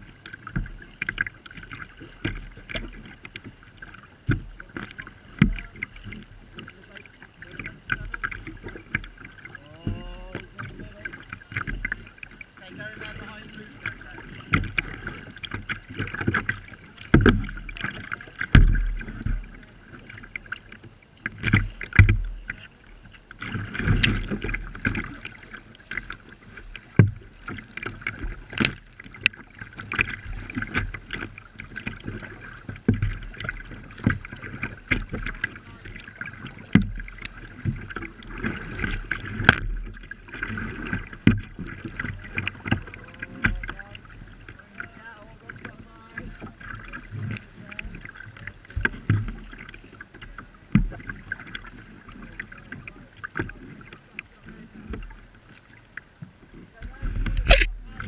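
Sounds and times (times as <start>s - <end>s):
paddle splashes and knocks: 0.0s - 58.0s
water slapping against hull: 0.0s - 58.0s.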